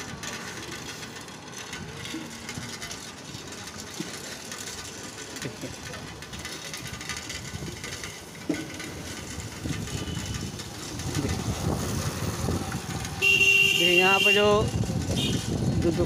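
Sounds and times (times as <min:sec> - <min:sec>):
light traffic passing: 0:00.0 - 0:16.0.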